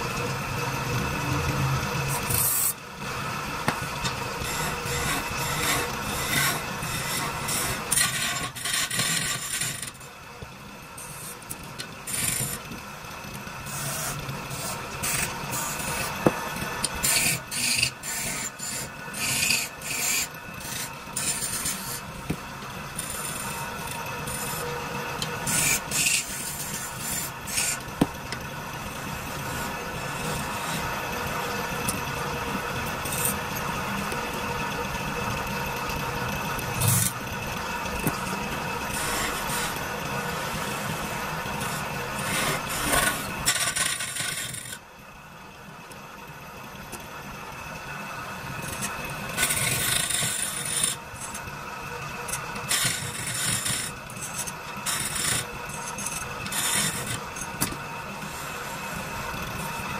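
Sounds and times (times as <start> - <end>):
chisel scraping spinning wood: 0.0 - 10.2, 11.0 - 44.8, 48.6 - 51.6, 52.3 - 59.9
wood lathe humming: 0.0 - 44.8, 48.4 - 59.9.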